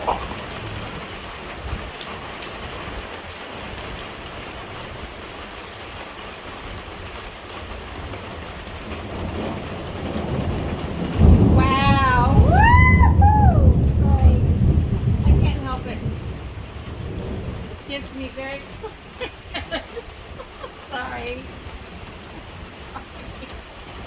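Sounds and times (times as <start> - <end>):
heavy rain pouring: 0.0 - 24.0
thunder rumbling: 0.0 - 24.0.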